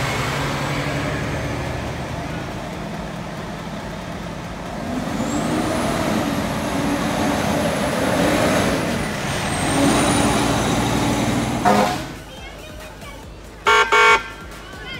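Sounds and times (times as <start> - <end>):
fire engine engine accelerating: 0.0 - 14.9.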